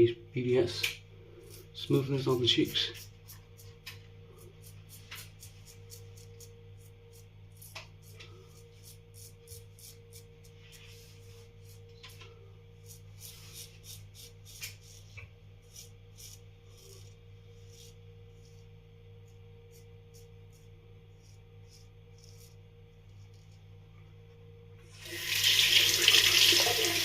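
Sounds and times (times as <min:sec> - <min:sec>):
faint steady hum: 0:00.0 - 0:27.0
razor scraping stubble: 0:01.4 - 0:23.6.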